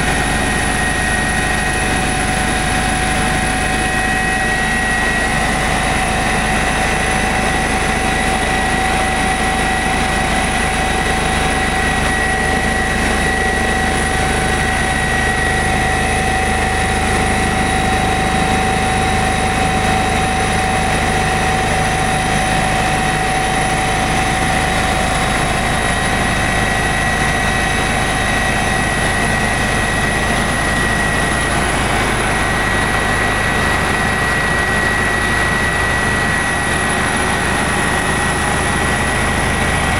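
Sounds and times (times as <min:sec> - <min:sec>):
helicopter rotor and engine rumble: 0:00.0 - 0:39.9
high-pitched turbine whines: 0:00.0 - 0:39.9.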